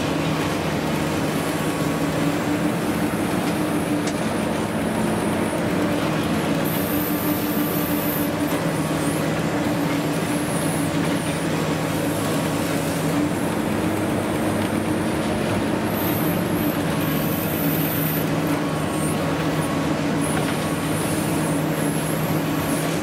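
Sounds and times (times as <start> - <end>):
continuous rush of noise: 0.0 - 23.0
excavator diesel engine humming: 0.0 - 23.0.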